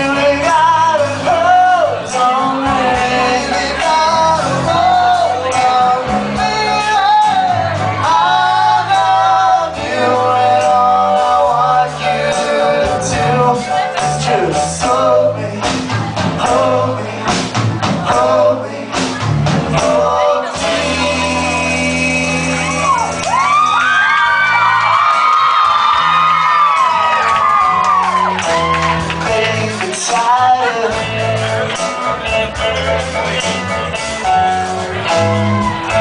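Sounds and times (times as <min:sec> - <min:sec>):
person singing: 0:00.0 - 0:24.1, 0:26.8 - 0:33.6
drums: 0:00.0 - 0:36.0
live rock band playing: 0:00.0 - 0:36.0
piano: 0:00.0 - 0:36.0.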